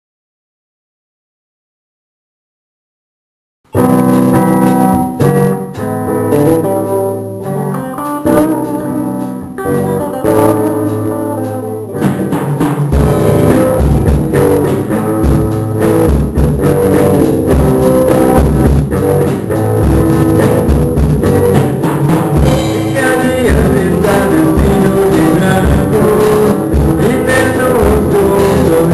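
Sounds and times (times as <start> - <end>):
drum kit and bass: 3.7 - 28.9
guitar chords: 3.7 - 28.9.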